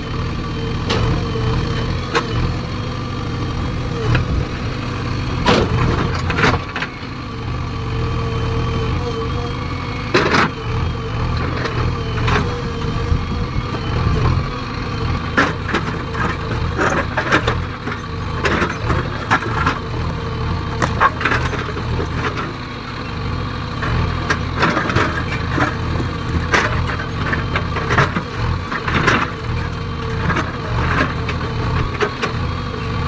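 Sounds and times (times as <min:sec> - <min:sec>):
backhoe diesel engine running: 0:00.0 - 0:33.0.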